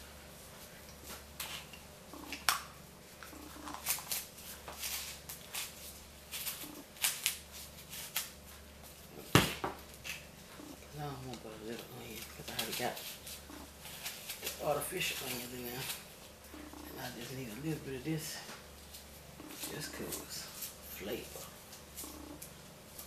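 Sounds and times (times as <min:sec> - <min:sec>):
onion skin crackling and rustling: 0:00.6 - 0:23.0.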